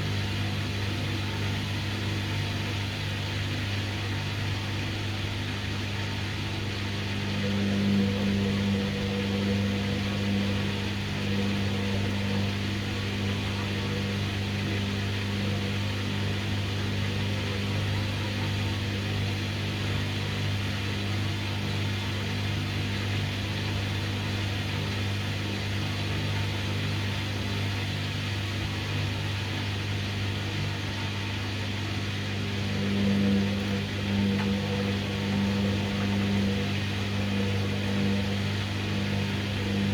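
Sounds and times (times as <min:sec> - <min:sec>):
washing machine motor humming: 0:07.0 - 0:39.9.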